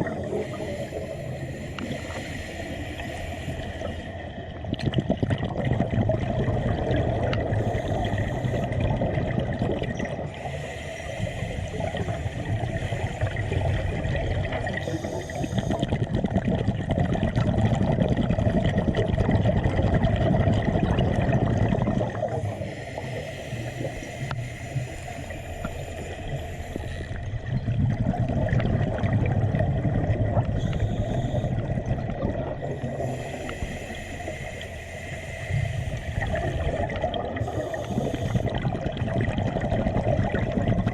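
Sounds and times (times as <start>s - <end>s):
water bubbling and gurgling: 0.0s - 40.9s.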